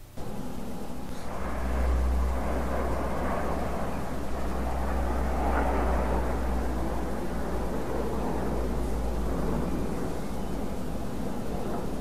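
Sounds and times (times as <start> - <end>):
jets flying over: 0.0 - 12.0.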